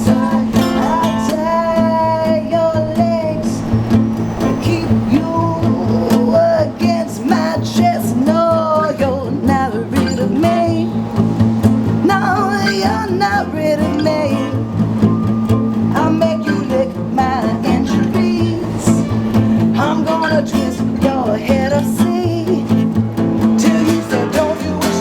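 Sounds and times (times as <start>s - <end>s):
person singing melody: 0.0s - 25.0s
strummed guitar: 0.0s - 25.0s.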